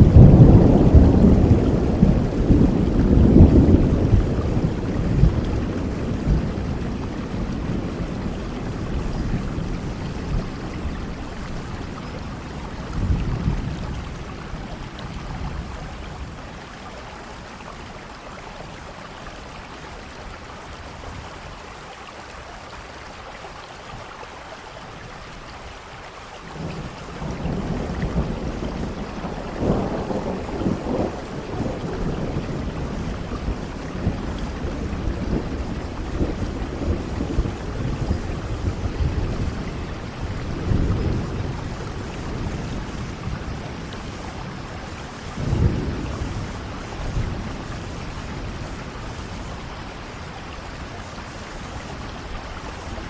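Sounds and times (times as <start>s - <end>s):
thunder rumbling: 0.0s - 18.8s, 26.5s - 53.0s
steady rain: 0.0s - 53.0s.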